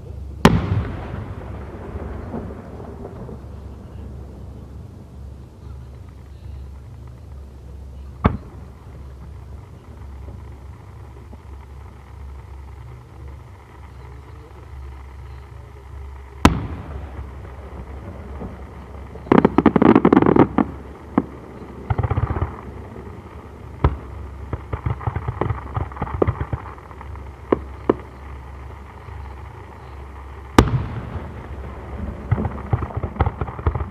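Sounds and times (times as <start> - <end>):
fireworks crackling bursts: 0.0 - 33.9
low rumble: 0.0 - 33.9
fireworks booms: 0.3 - 33.9.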